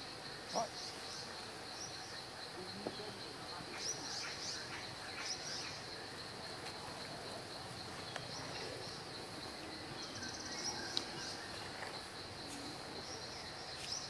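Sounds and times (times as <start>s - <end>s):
insect chirring: 0.0s - 14.0s.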